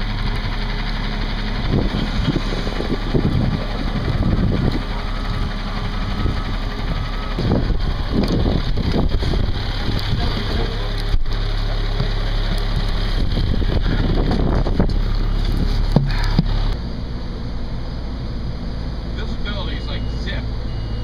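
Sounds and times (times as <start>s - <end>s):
fire truck engine humming: 0.0s - 21.0s.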